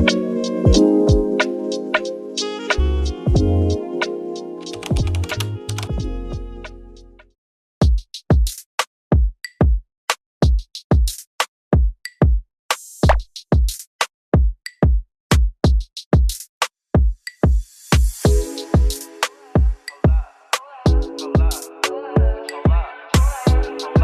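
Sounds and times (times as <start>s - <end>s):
hip hop drum-machine beat: 0.0s - 7.2s, 7.8s - 9.8s, 10.4s - 20.3s, 20.9s - 24.0s.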